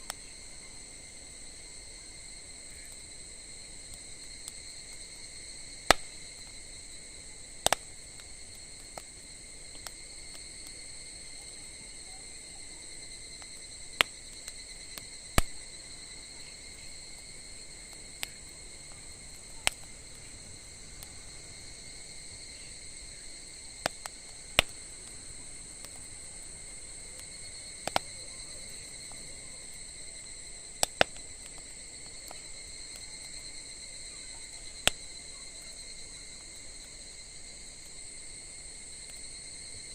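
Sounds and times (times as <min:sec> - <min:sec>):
campfire crackling and popping: 0:00.0 - 0:39.9
insects trilling: 0:00.0 - 0:39.9.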